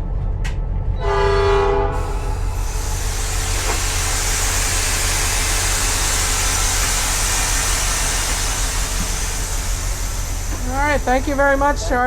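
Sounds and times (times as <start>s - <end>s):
diesel engine running: 2.0s - 12.0s.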